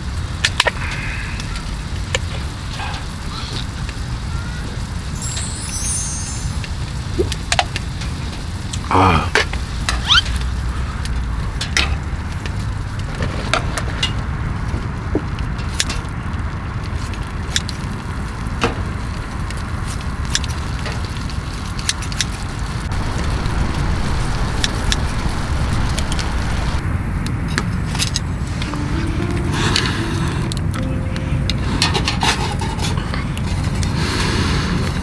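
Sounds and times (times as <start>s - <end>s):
firewood crackling and popping: 0.0s - 28.6s
low fire rumble: 0.0s - 28.9s.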